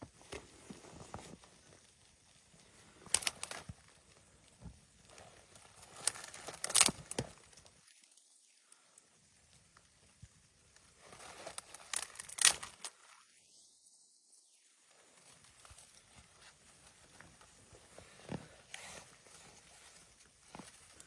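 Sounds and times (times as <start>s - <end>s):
crinkling and rustling: 0.0s - 8.3s, 9.5s - 13.2s, 15.0s - 21.0s.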